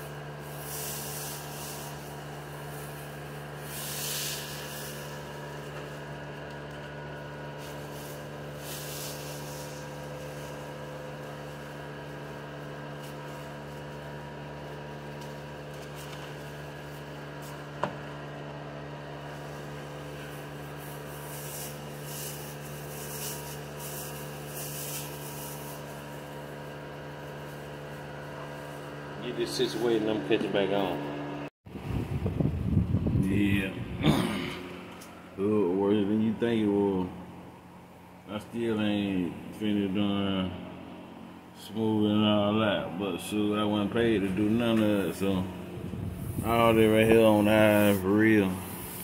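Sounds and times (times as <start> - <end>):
electric fan humming: 0.0 - 49.0.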